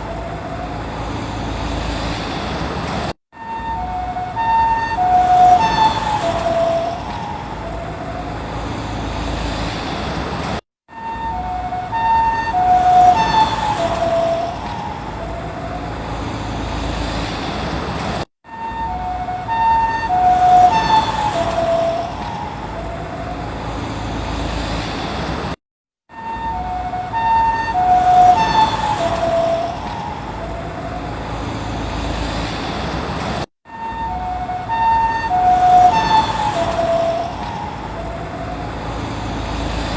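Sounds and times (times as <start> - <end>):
ambulance siren passing by: 0.0 - 2.0, 3.3 - 9.8, 10.9 - 17.2, 18.4 - 24.7, 26.1 - 32.4, 33.7 - 39.9
vehicle and road noise: 0.0 - 39.9.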